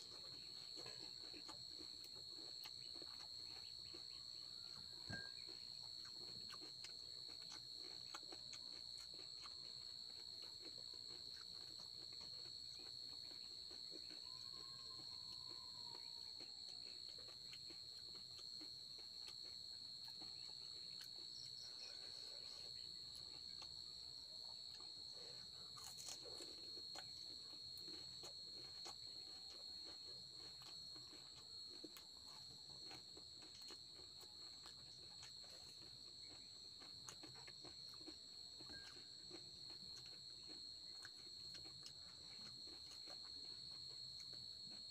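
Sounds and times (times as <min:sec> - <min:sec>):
crickets trilling: 0:00.0 - 0:44.9
crunching of crisp food being eaten: 0:00.0 - 0:44.9.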